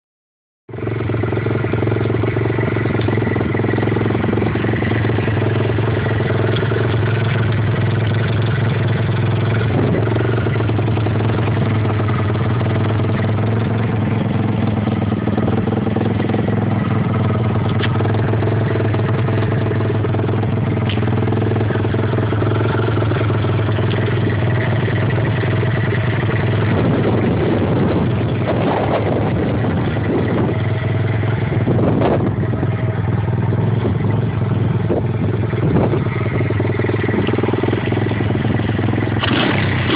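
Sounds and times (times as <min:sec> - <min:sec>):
motorbike engine idling: 0:00.7 - 0:39.9.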